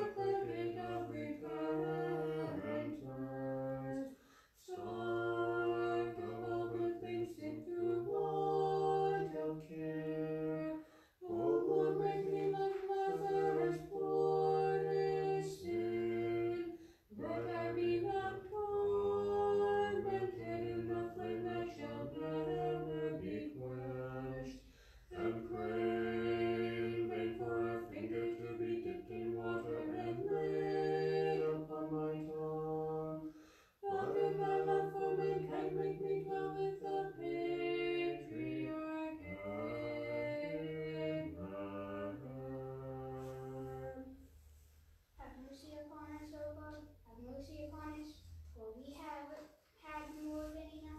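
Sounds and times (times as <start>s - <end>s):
choir chanting a hymn: 0.0s - 44.1s.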